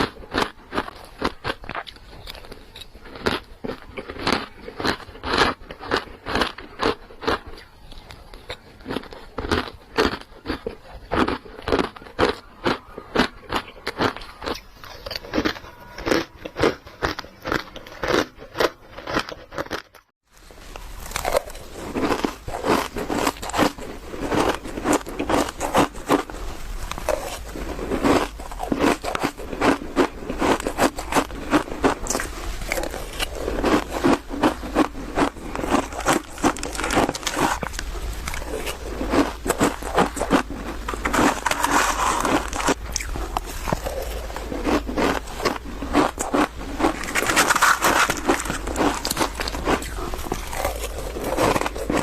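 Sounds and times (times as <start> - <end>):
crushed ice being chewed: 0.0 - 52.0.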